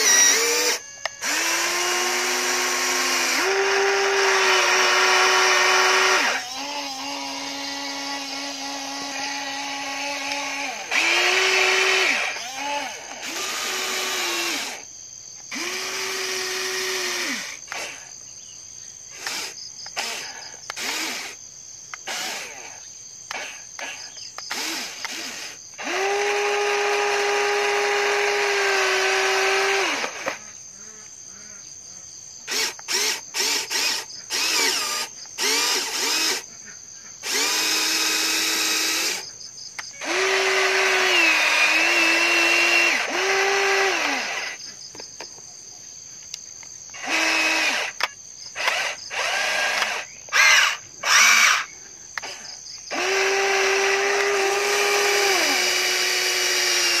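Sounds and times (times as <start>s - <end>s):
electric motors whining: 0.0s - 14.8s, 15.4s - 18.1s, 19.1s - 30.6s, 32.5s - 36.5s, 37.2s - 39.2s, 39.8s - 44.6s, 46.9s - 57.0s.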